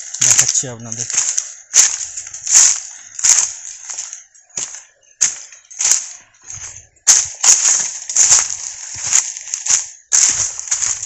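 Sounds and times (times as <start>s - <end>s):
footsteps crunching on a dry path: 0.0s - 11.0s.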